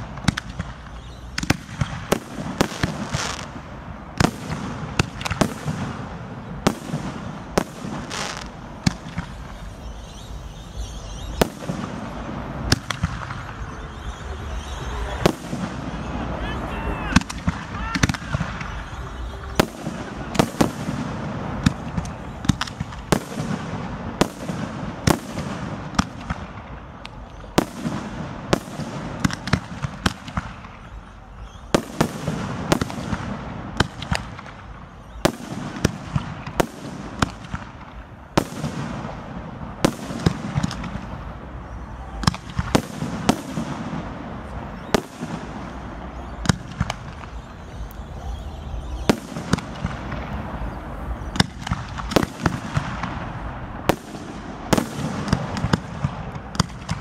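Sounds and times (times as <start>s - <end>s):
background noise: 0.0s - 57.0s
fireworks bursting: 0.0s - 57.0s.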